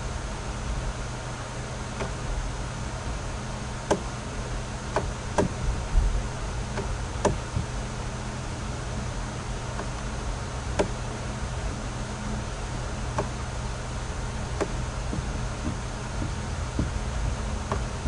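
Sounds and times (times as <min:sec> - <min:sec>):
low electrical hum and hiss: 0:00.0 - 0:18.0.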